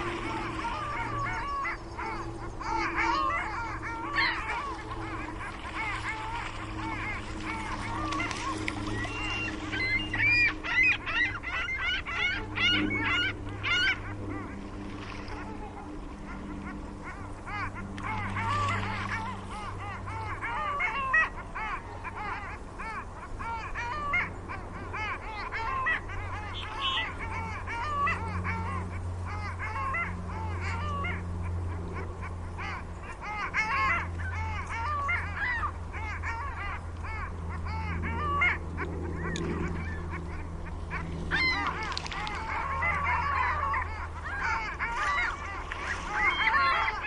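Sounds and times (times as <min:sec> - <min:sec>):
ducks calling: 0:00.0 - 0:47.0
low steady hum: 0:00.0 - 0:47.0.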